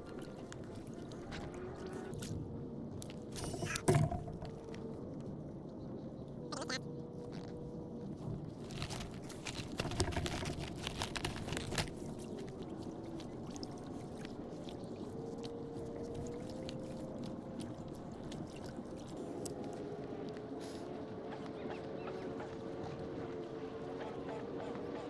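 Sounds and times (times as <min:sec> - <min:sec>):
water lapping and trickling: 0:00.0 - 0:25.0.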